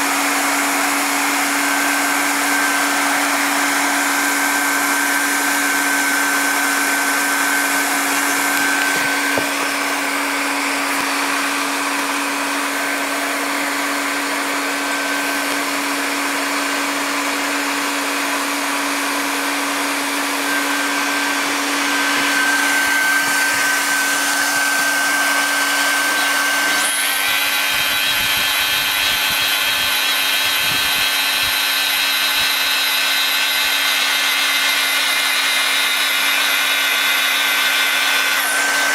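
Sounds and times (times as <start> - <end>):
hot-air blower hum with whine: 0.0 - 38.9
motor whine: 0.0 - 38.9.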